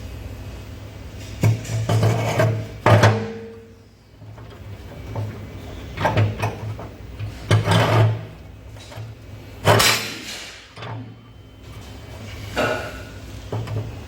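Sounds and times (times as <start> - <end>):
steady low hum: 0.0 - 14.0
scraping and sliding with knocks: 1.2 - 14.0.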